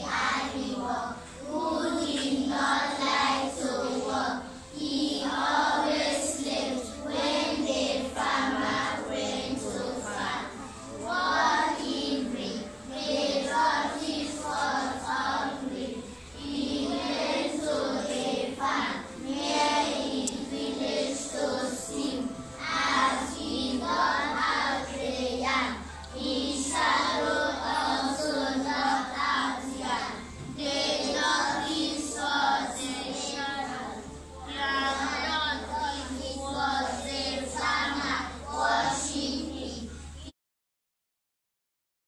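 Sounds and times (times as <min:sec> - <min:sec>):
children singing in unison: 0:00.0 - 0:39.9.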